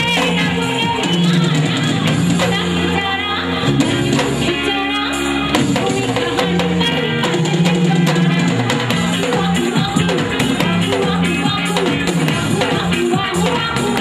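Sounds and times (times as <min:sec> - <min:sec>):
amplified backing music: 0:00.0 - 0:14.0
woman singing into microphone: 0:00.0 - 0:14.0.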